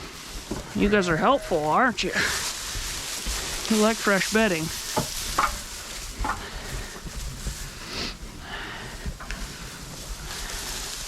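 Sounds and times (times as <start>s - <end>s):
straw rustling and crackling: 0.0s - 11.0s.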